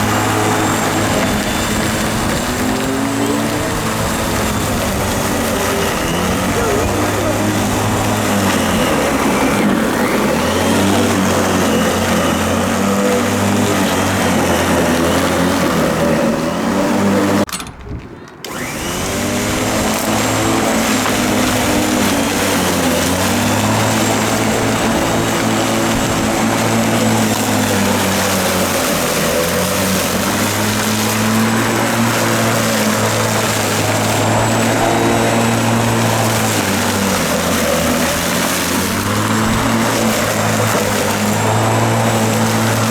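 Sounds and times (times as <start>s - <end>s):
electric lawn mower cutting grass: 0.0s - 17.5s, 18.4s - 42.9s.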